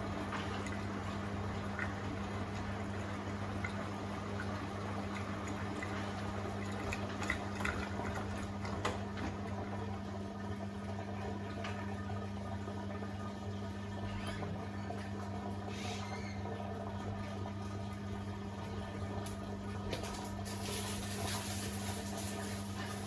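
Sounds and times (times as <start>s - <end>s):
washing machine low hum: 0.0s - 23.0s
water sloshing in washing machine: 0.0s - 23.0s.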